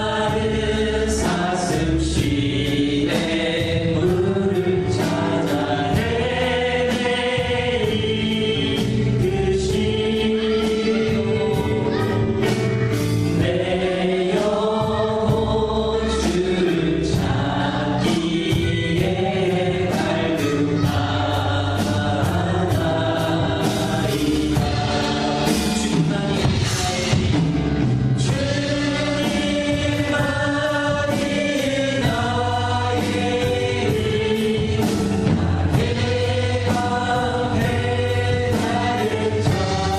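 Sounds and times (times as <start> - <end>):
choir singing gospel song: 0.0 - 39.9
instrumental backing with beat: 0.0 - 39.9.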